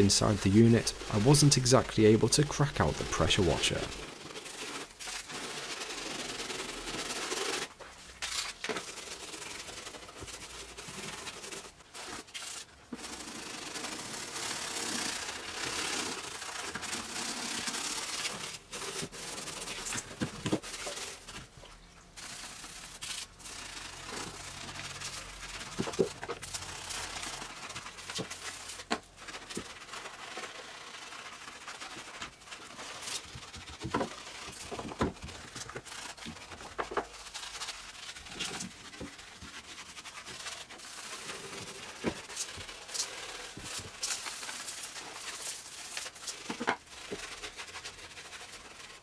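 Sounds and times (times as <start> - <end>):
hands scrubbing wheel arch: 0.2 - 21.5, 22.2 - 49.0.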